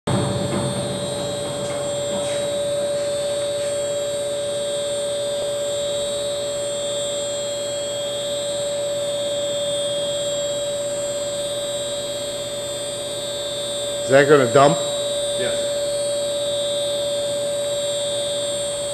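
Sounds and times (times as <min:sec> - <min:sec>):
electric hoist motor humming: 0:00.1 - 0:18.9.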